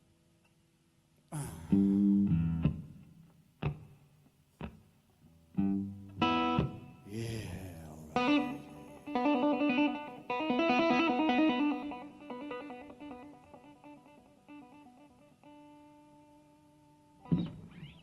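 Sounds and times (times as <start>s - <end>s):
solo blues guitar: 1.4s - 18.0s.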